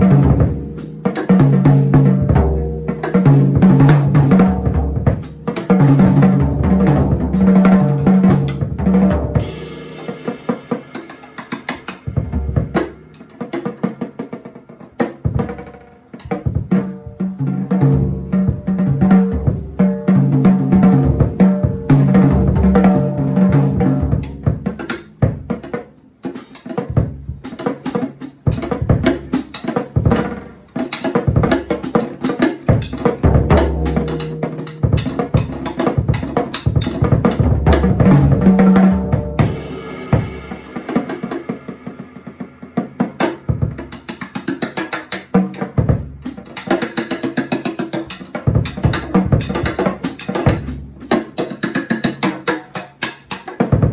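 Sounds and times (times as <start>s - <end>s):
bass drum and snare strikes: 0.0s - 13.2s, 15.3s - 16.9s, 20.4s - 25.8s, 26.4s - 47.2s, 48.0s - 51.6s
music led by drum kit: 0.0s - 53.9s.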